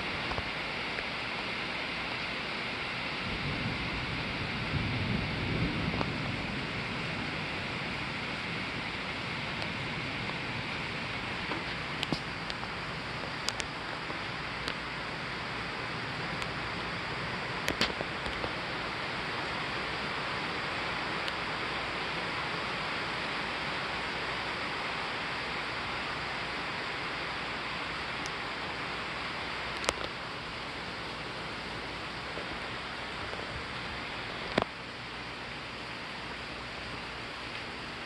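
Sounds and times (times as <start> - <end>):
thunderstorm rushing hiss: 0.0 - 38.0.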